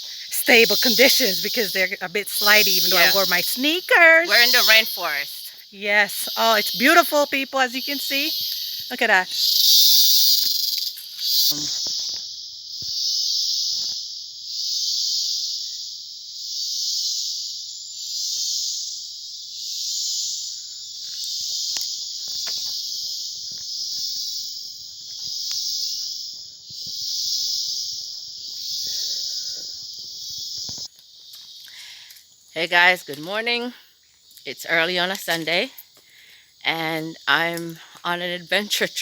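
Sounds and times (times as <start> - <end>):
insect chorus shrill buzz: 0.0 - 39.0.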